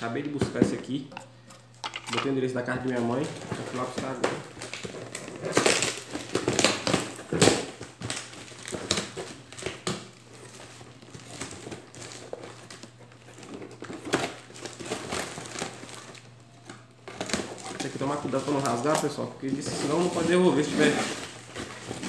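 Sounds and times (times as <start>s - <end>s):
plastic packing material crinkling: 0.0s - 22.0s.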